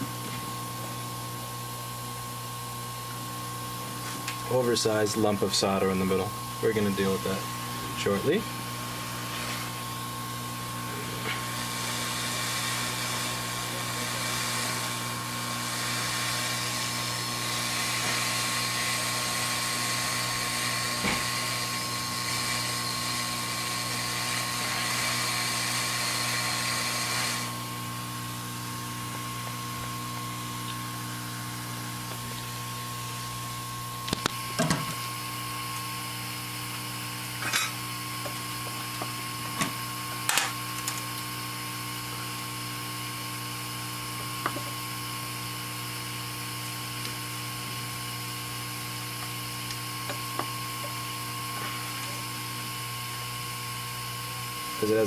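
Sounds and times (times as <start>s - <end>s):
electrical hum: 0.0s - 55.0s
hot air blower hissing: 0.0s - 55.0s.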